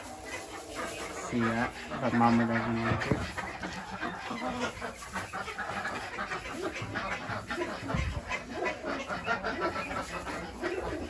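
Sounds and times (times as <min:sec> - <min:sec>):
farmyard animals calling: 0:00.0 - 0:11.0.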